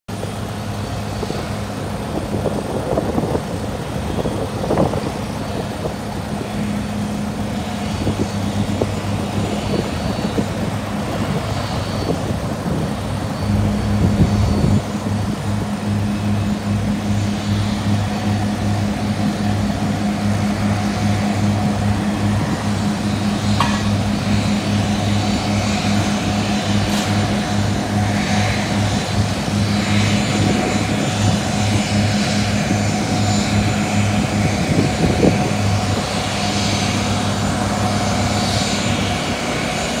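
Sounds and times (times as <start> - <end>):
constant rush of noise: 0.1 - 40.0
jet engine hum pulsing: 0.1 - 40.0.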